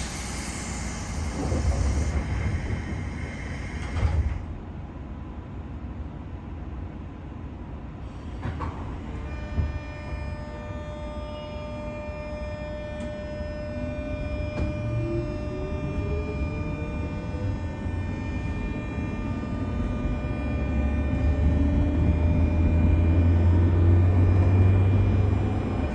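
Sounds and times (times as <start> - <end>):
traction motor whine: 0.0 - 4.5, 8.4 - 25.9
train wheels rumbling on rail: 0.0 - 25.9.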